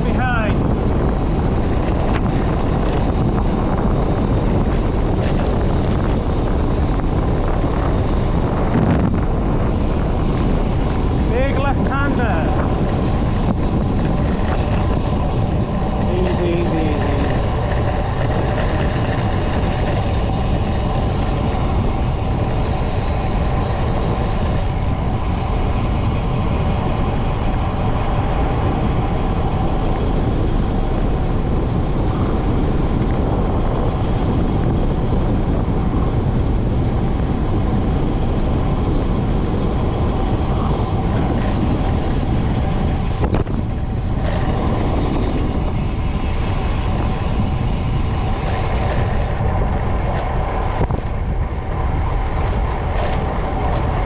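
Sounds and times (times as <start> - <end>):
bicycle tyres on tarmac: 0.0 - 54.0
wind rush over microphone: 0.0 - 54.0.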